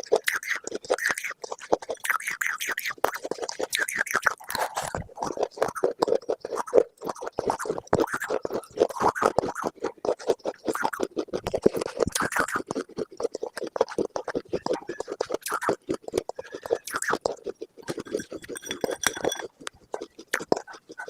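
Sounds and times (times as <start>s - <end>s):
crisp crunching and crackling: 0.0s - 21.0s.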